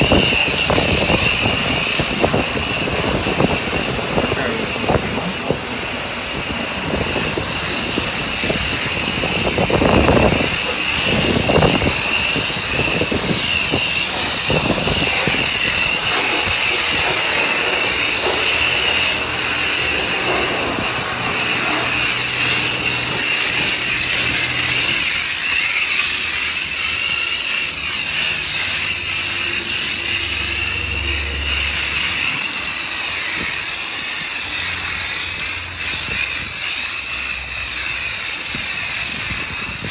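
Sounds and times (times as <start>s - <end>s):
pressure washer spraying car: 0.0s - 39.9s.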